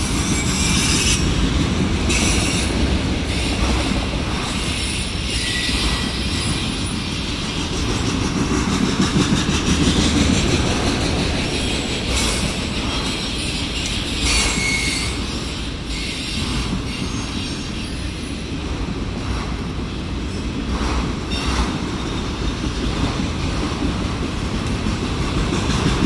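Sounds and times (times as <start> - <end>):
train wheels rumbling over rails: 0.0 - 26.0.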